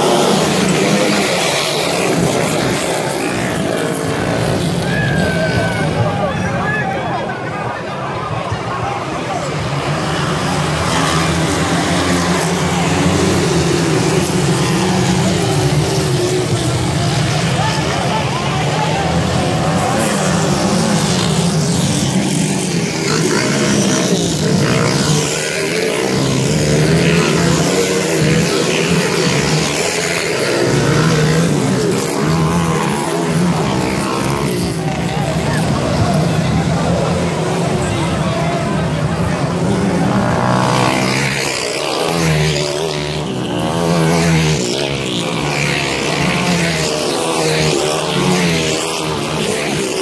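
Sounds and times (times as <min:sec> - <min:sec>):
dirt bike engines racing past: 0:00.0 - 0:50.0.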